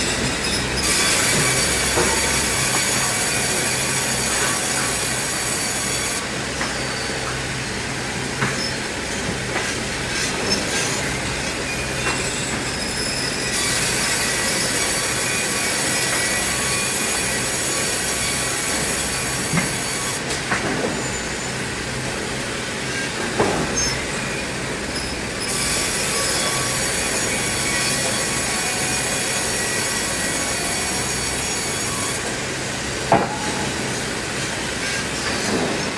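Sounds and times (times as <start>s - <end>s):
sawmill saw cutting timber: 0.0s - 7.4s, 8.4s - 20.3s, 22.8s - 35.9s.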